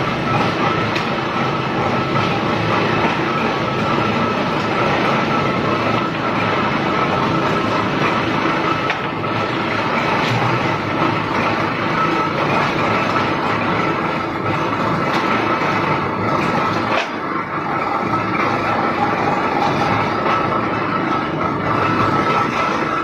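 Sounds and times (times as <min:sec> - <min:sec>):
brick extruder clattering: 0:00.0 - 0:23.0.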